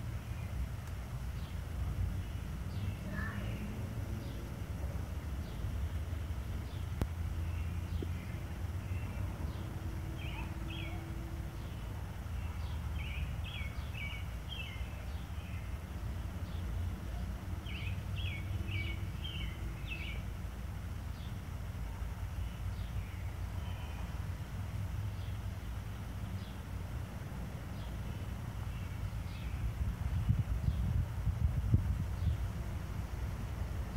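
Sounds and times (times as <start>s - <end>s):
low background rumble: 0.0s - 33.9s
small birds chirping: 0.0s - 33.9s.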